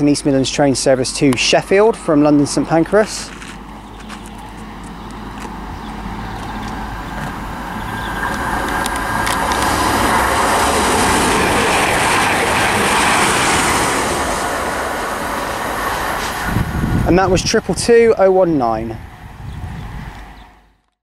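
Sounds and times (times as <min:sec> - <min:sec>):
train rushing past: 0:00.0 - 0:20.7.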